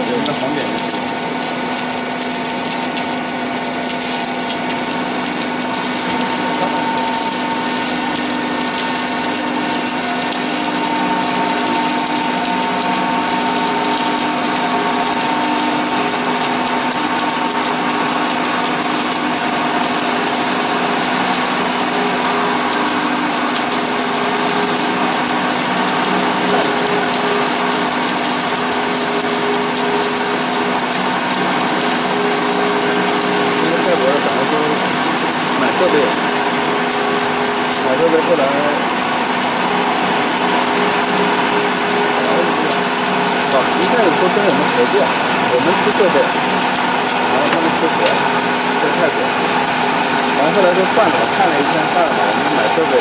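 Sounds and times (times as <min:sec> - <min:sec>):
pipe welding hiss: 0:00.0 - 0:53.0.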